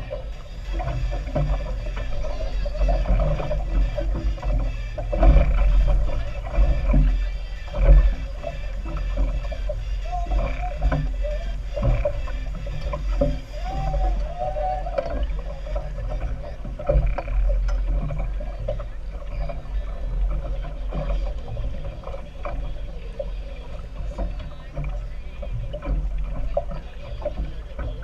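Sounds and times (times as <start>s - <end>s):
speedboat engine and water rumble: 0.0s - 28.0s.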